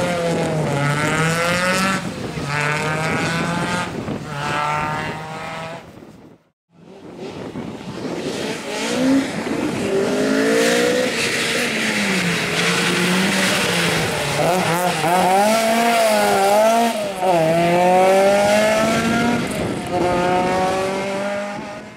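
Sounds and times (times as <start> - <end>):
rally car engine revving: 0.0 - 5.8, 6.8 - 21.9.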